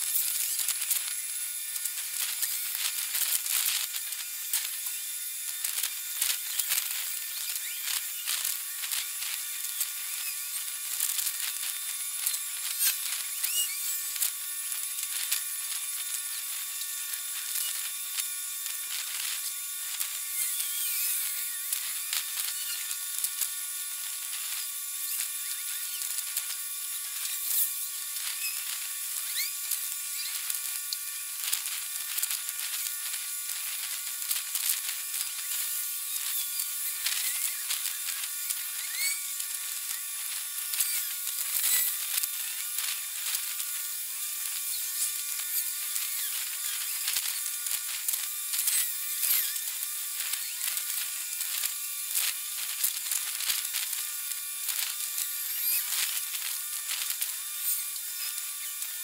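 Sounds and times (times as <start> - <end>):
sped-up garbled buzzing and clicks: 0.0 - 59.0.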